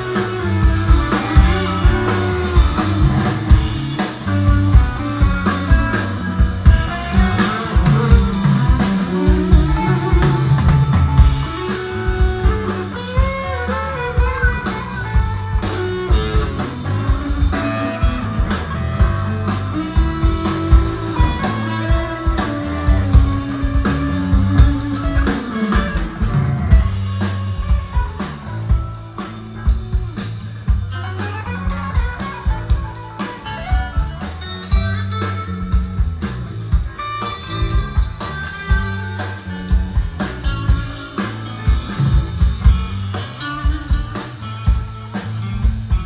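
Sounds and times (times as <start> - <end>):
bass guitar: 0.0 - 46.0
drum kit playing: 0.0 - 46.0
electric guitar lead lines: 0.0 - 46.0.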